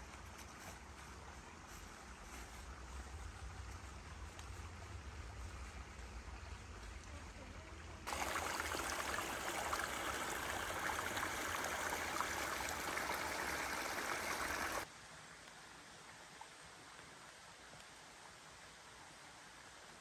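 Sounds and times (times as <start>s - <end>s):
stream trickling and splashing: 0.0s - 20.0s.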